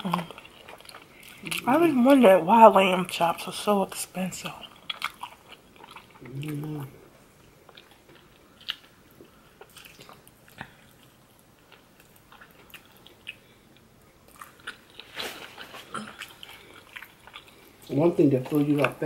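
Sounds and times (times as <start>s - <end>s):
person chewing food: 0.0s - 2.2s, 4.5s - 19.0s.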